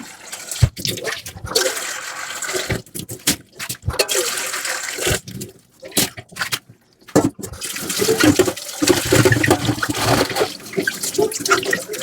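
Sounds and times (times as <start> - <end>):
tap water running: 0.0 - 5.6, 7.2 - 12.0.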